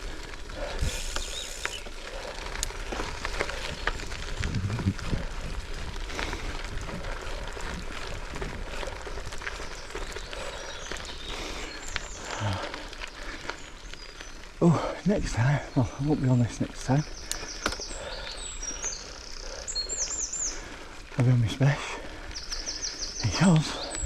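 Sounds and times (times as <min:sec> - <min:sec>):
bike tyres rolling on gravel: 0:00.0 - 0:24.0.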